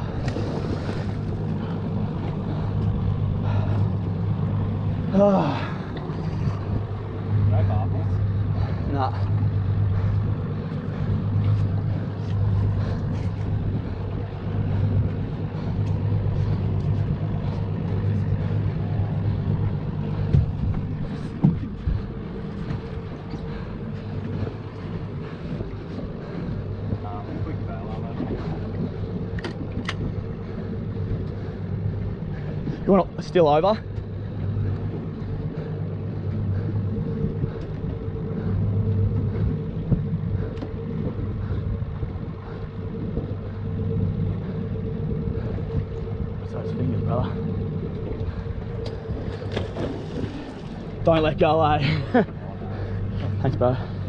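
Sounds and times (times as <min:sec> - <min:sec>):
outboard motor humming: 0:00.0 - 0:54.0.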